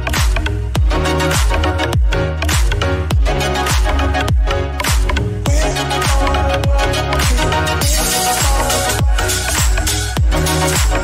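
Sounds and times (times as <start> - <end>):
deep kick drum: 0.2 - 11.0.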